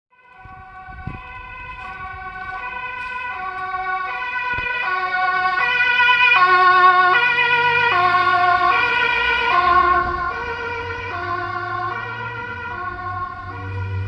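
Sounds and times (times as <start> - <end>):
police car two-tone siren: 0.1 - 14.0.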